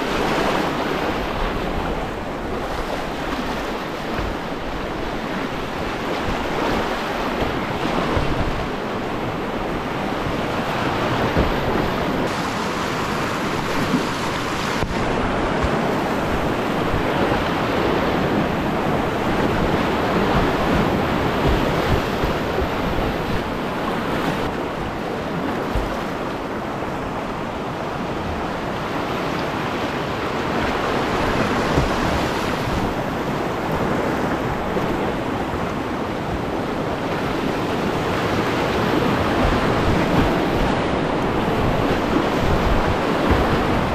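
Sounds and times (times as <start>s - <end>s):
whitewater rapids rushing: 0.0s - 43.9s.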